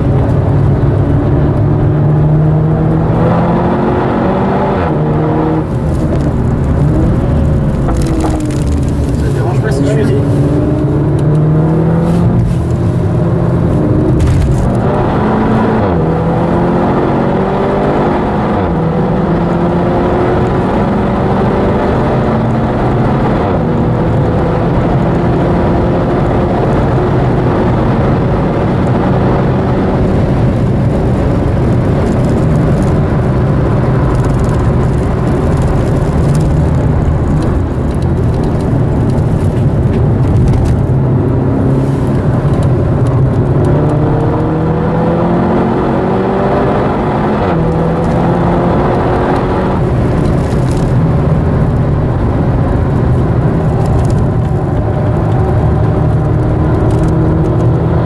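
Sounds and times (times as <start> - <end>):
car engine accelerating: 0.0 - 58.0
road and tyre rumble: 0.0 - 58.0.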